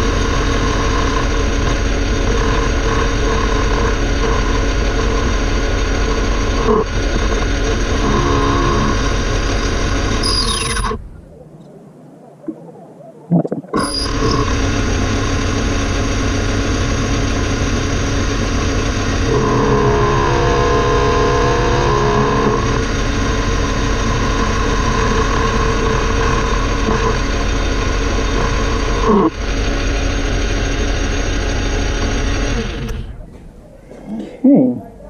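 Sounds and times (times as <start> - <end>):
metal lathe running: 0.0 - 10.9, 13.8 - 33.1.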